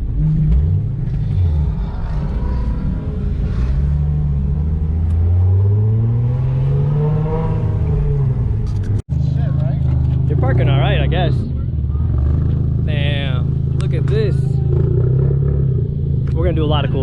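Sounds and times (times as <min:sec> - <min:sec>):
car engine at low revs: 0:00.0 - 0:17.0.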